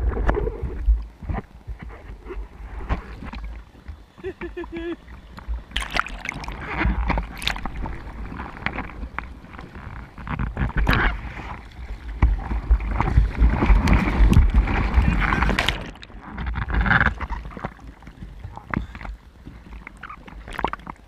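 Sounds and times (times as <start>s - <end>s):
seawater sloshing and splashing: 0.0s - 21.0s.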